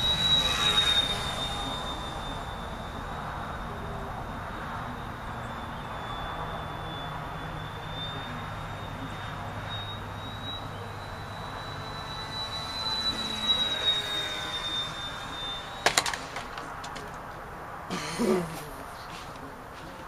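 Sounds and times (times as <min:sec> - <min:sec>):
model airplane motor whine: 0:00.0 - 0:17.2.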